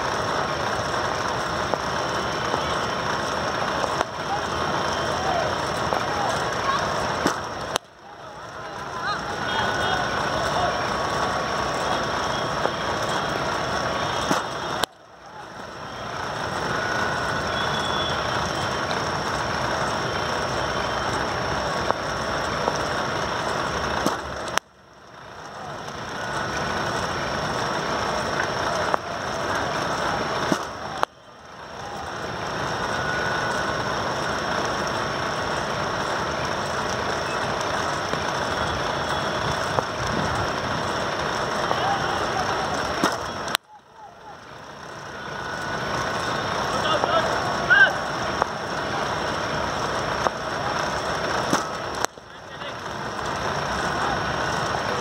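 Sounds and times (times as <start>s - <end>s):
rushing outdoor background noise: 0.0s - 55.0s.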